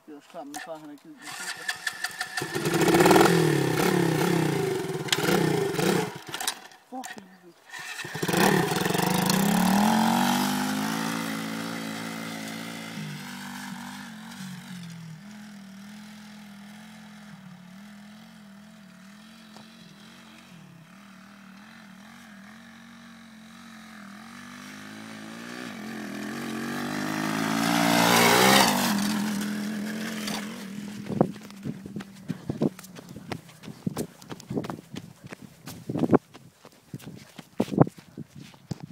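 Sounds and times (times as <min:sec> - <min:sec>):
dirt bike engine passing: 0:01.2 - 0:07.1, 0:07.7 - 0:36.3.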